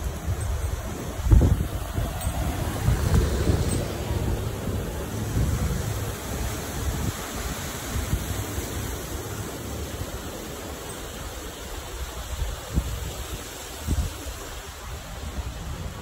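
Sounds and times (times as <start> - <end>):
steady rushing hiss: 0.0 - 16.0
wind buffeting microphone: 0.0 - 16.0.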